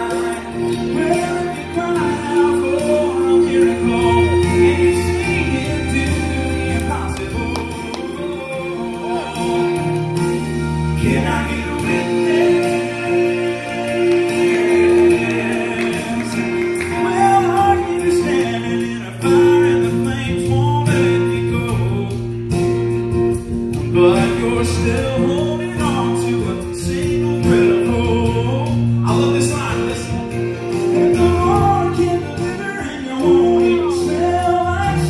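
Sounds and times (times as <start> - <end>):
person singing into a microphone: 0.0 - 22.5, 23.9 - 35.0
steady bass: 0.0 - 35.0
strummed acoustic guitars: 0.0 - 35.0.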